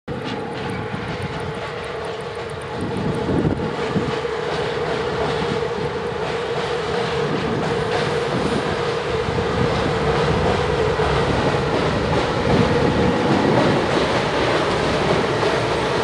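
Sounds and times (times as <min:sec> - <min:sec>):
electric locomotive whine: 0:00.1 - 0:16.0
train wheels rumbling: 0:00.1 - 0:16.0.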